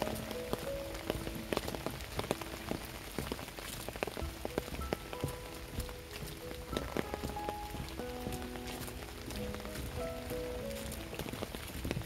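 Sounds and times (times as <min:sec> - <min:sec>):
rain falling: 0:00.0 - 0:12.0
raindrops ticking: 0:00.0 - 0:12.0
soft background music: 0:00.0 - 0:12.0.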